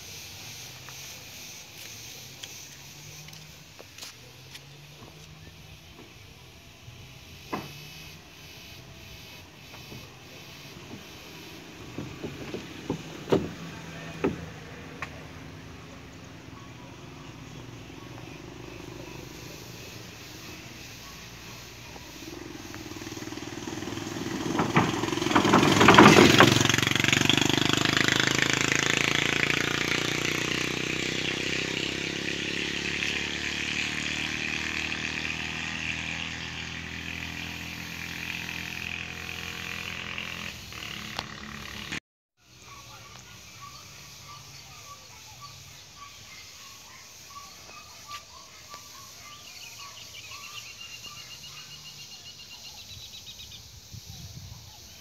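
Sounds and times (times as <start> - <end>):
small motorcycle passing: 0.0 - 54.3.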